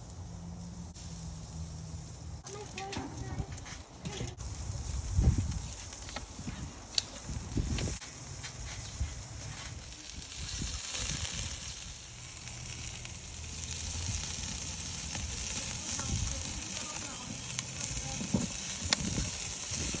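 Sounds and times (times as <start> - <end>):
ribs sizzling on a grill: 0.0 - 20.0.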